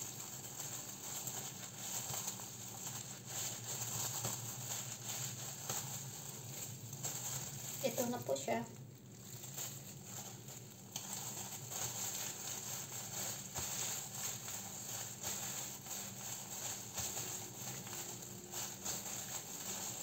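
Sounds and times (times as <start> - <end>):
plastic gloves rustling: 0.0 - 20.0.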